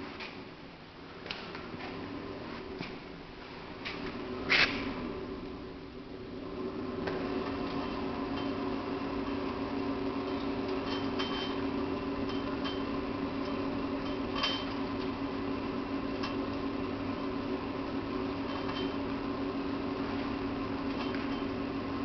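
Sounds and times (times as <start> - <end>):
stove fan motor humming: 0.9 - 22.0.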